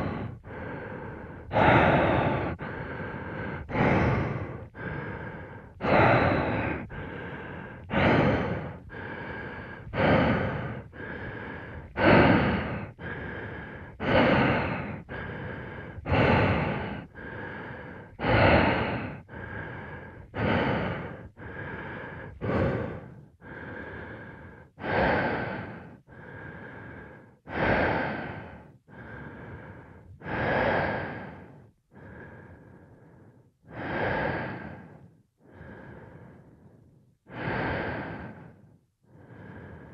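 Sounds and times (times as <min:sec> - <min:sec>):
breathing through breathing gear: 0:00.0 - 0:39.9.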